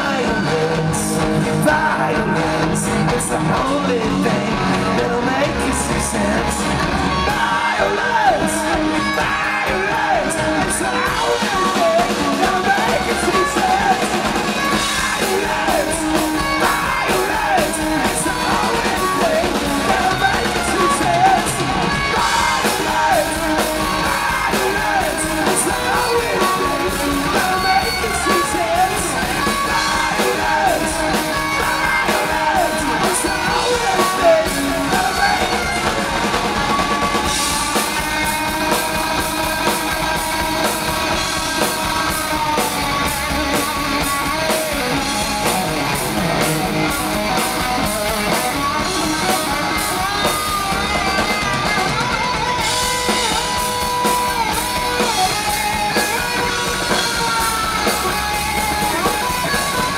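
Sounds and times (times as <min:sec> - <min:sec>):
person singing lead vocal: 0:00.0 - 0:59.9
rock band playing: 0:00.0 - 0:59.9.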